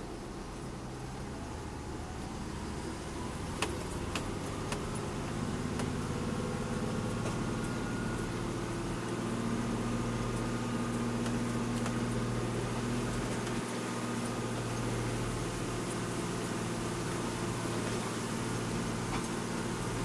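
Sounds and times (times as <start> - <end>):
truck diesel engine droning: 0.0 - 20.0.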